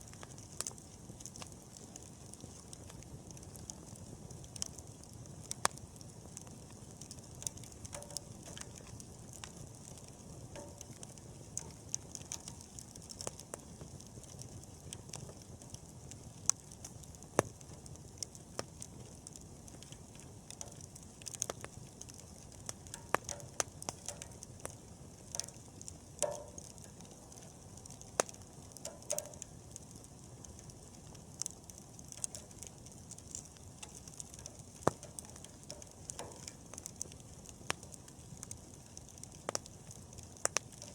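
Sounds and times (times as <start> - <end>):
bonfire crackling: 0.0 - 40.9.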